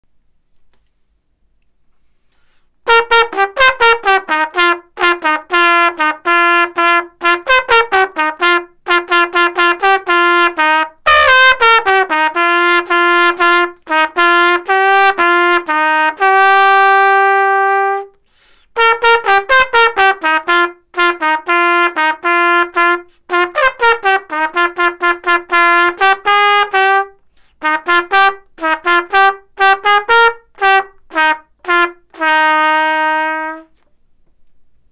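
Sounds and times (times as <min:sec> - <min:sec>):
cornet playing solo melody: 0:02.8 - 0:33.8.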